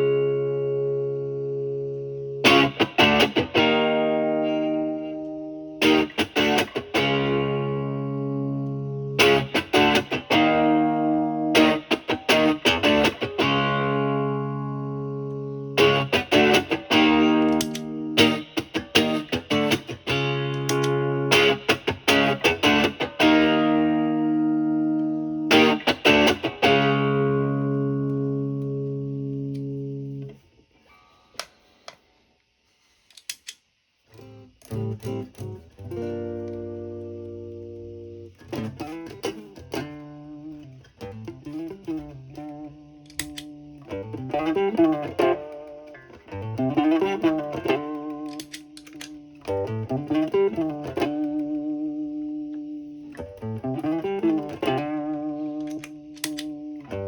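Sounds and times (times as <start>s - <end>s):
overdriven electric guitar chords: 0.0s - 30.6s, 34.2s - 57.0s.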